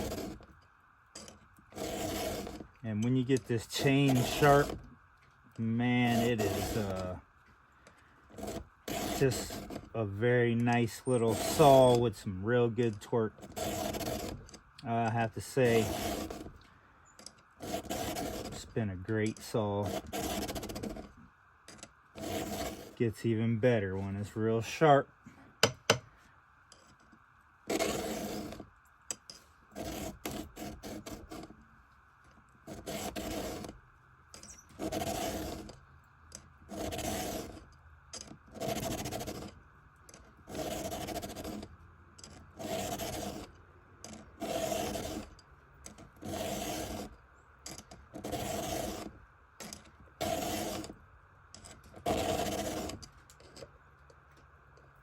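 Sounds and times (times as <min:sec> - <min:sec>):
file scraping saw chain teeth: 0:00.0 - 0:00.5, 0:01.2 - 0:04.8, 0:05.6 - 0:07.2, 0:08.3 - 0:21.1, 0:21.7 - 0:23.1, 0:27.7 - 0:31.5, 0:32.7 - 0:33.8, 0:34.4 - 0:53.7.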